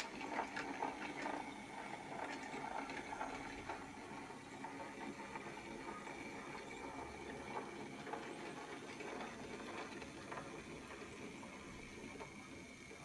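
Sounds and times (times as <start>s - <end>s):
model train motor whine: 0.0s - 13.0s.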